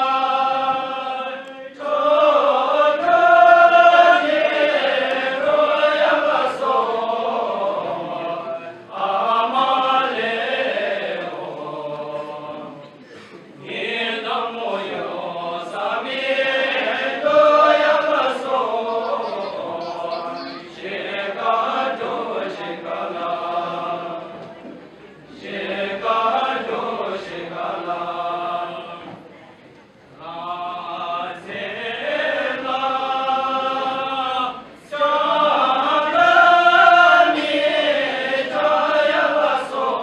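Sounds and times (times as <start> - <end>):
men singing together unaccompanied: 0.0 - 13.0, 13.6 - 24.6, 25.3 - 29.3, 30.2 - 40.0.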